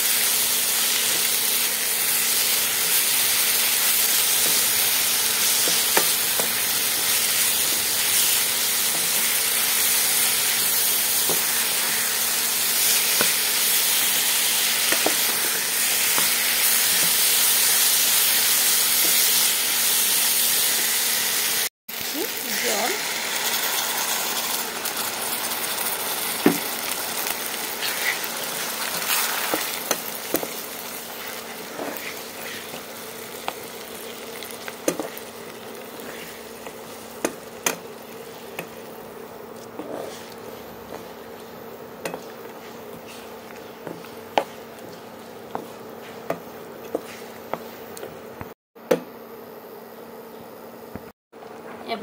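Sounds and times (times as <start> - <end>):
chutney sizzling in a pan: 0.0 - 48.2.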